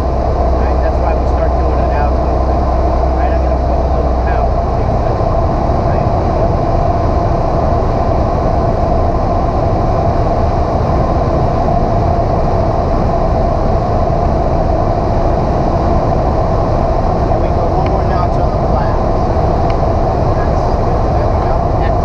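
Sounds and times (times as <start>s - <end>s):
airplane engine droning: 0.0s - 22.0s.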